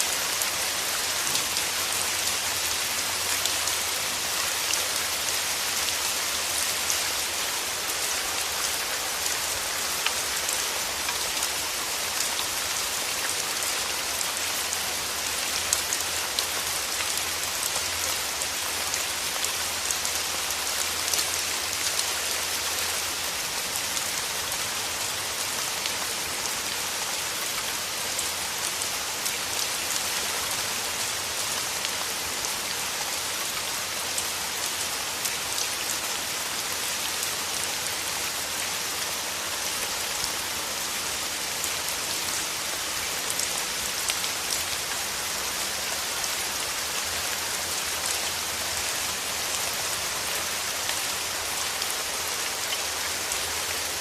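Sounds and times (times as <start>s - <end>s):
rain falling through trees: 0.0s - 54.0s.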